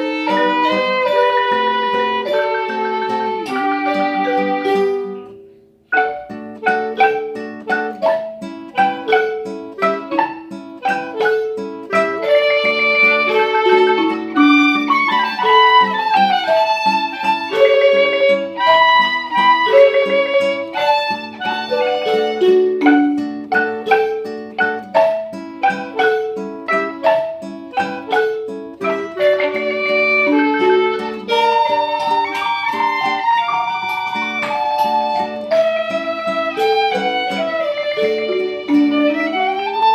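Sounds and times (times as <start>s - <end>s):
plucked string instrument music: 0.0s - 39.9s.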